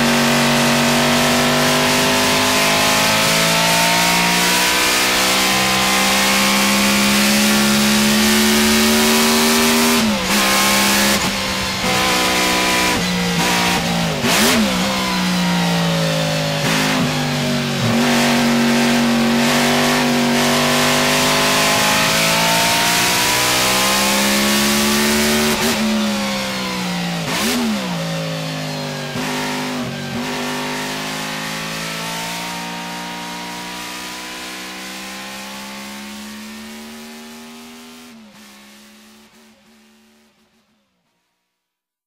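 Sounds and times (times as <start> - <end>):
racing engine revving: 0.0 - 39.8.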